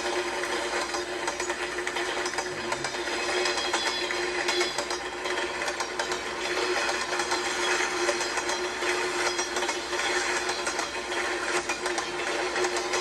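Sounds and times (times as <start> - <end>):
fast mechanical clicking: 0.0 - 13.0
toy train motor hum: 0.0 - 13.0.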